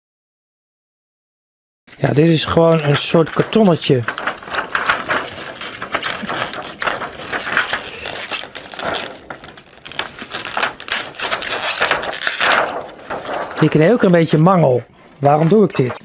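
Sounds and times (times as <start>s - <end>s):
plastic sheet crackling and rustling: 1.9s - 16.0s.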